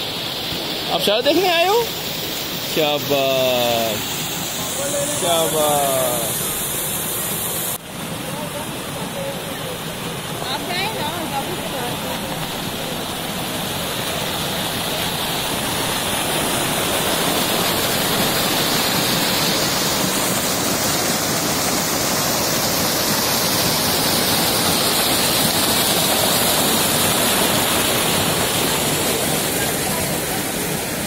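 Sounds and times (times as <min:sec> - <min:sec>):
stream rushing over boulders: 0:00.0 - 0:31.0.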